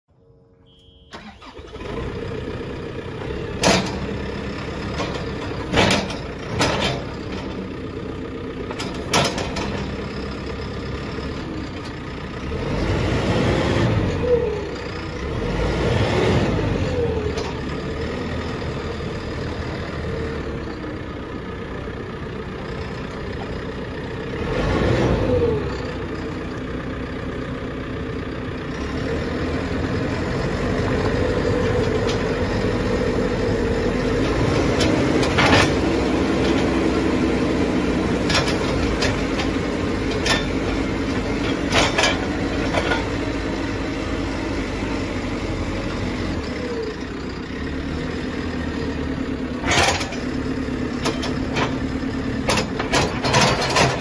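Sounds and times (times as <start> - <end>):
diesel engine starting and running: 0.1 - 54.0.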